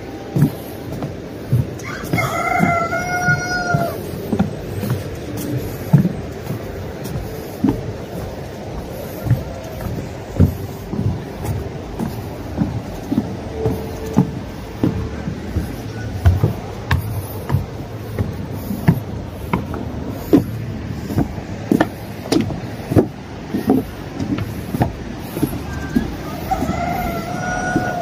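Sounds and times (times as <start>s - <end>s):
footsteps at walking pace: 0.0s - 28.0s
steady low rumble: 0.0s - 28.0s.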